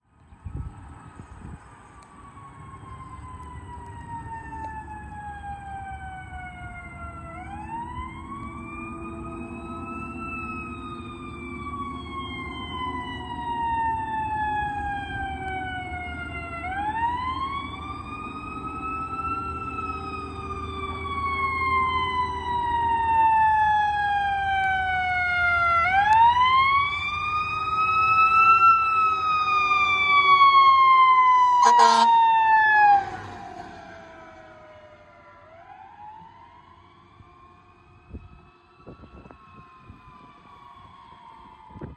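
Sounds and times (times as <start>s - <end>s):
fire engine siren wailing: 0.4s - 41.9s.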